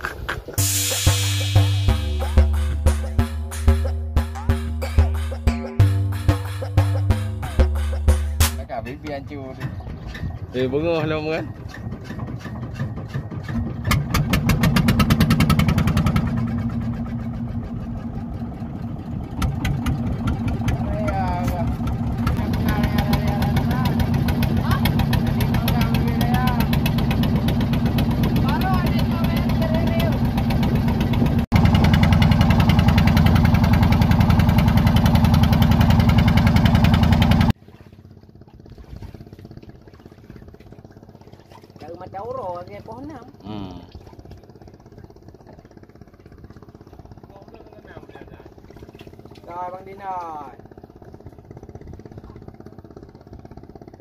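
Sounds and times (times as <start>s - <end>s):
boat engine starting and running: 0.0s - 54.0s.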